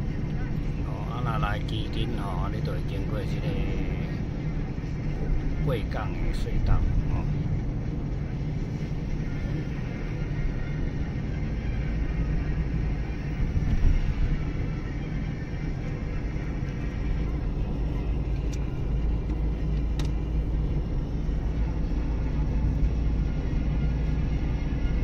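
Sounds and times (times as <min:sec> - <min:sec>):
car rumbling through tunnel: 0:00.0 - 0:25.0.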